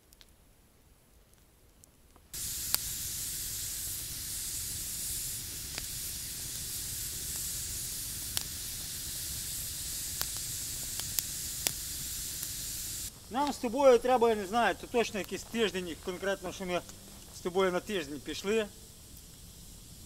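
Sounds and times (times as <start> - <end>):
campfire crackling and hissing: 0.0 - 20.0.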